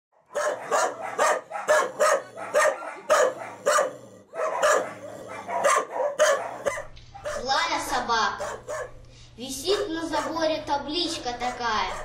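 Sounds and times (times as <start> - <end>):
large dog barking: 0.2 - 7.6, 8.3 - 9.0, 9.7 - 12.0.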